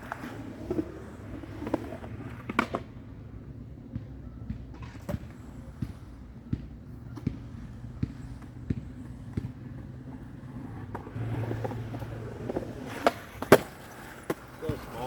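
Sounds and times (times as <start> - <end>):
skateboard clacks and knocks: 0.0 - 15.0
skateboard wheels rumbling on concrete: 0.0 - 15.0.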